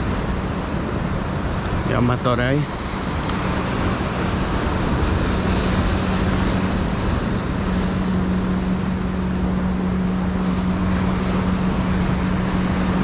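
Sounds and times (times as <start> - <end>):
motorboat engine hum: 0.0 - 13.0
surf washing over rocks: 0.0 - 13.0
wind on microphone: 0.0 - 13.0.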